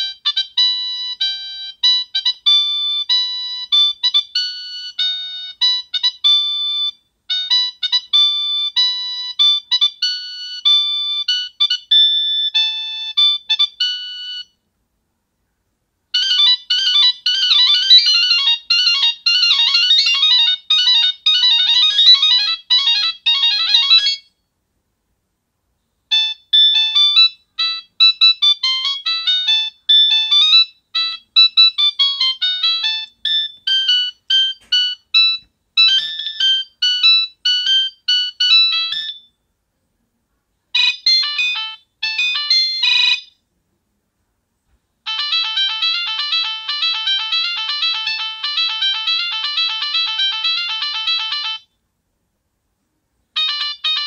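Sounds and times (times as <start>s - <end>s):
high-pitched electronic ringtone melodies: 0.0s - 14.6s, 16.1s - 24.3s, 26.1s - 39.3s, 40.8s - 43.4s, 45.1s - 51.7s, 53.4s - 54.0s.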